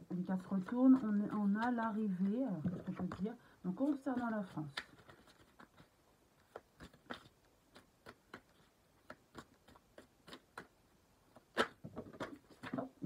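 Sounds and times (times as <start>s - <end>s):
cards being shuffled: 0.2s - 10.8s, 11.4s - 13.0s.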